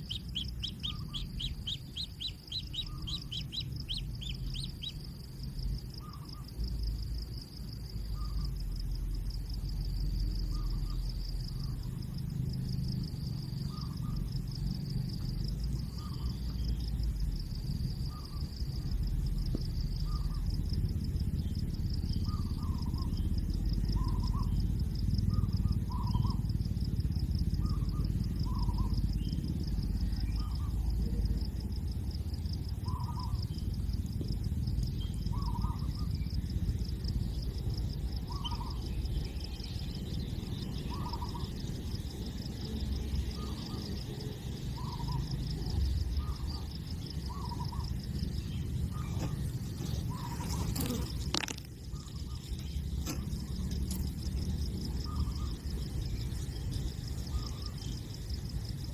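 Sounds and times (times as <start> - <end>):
high insect buzz: 0.0 - 58.9.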